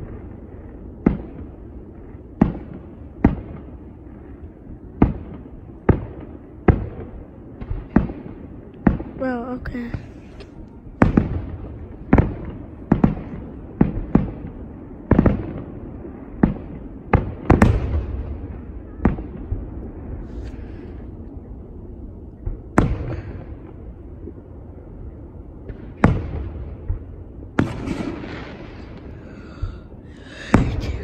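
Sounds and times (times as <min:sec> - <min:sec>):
fireworks bursting with bangs: 0:00.0 - 0:21.3, 0:22.4 - 0:24.2, 0:25.6 - 0:31.0.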